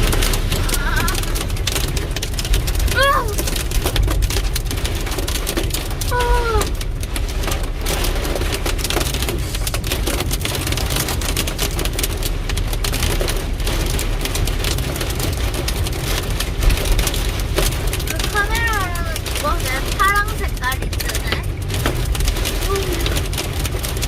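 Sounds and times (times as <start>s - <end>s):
heavy rain and hail pelting: 0.0s - 24.0s.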